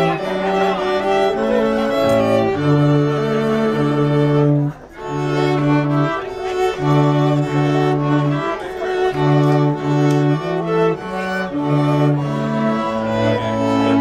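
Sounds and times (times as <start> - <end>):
string quartet playing: 0.0 - 14.0.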